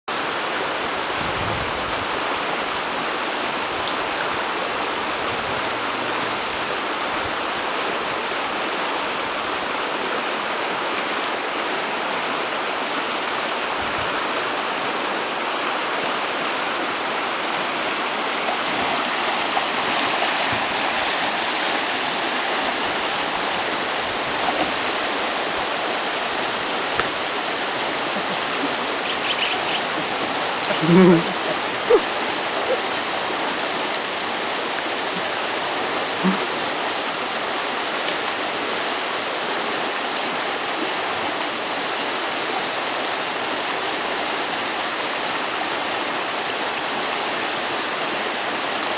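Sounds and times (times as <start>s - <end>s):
water rushing over rocks: 0.1s - 48.9s.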